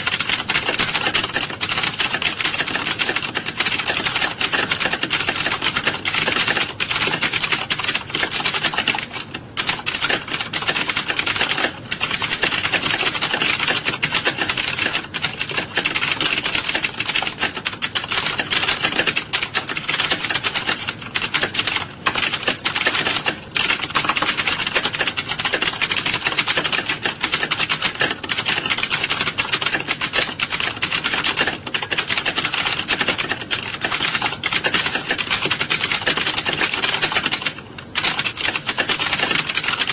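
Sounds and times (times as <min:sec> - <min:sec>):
many people typing on keyboards: 0:00.0 - 0:39.9.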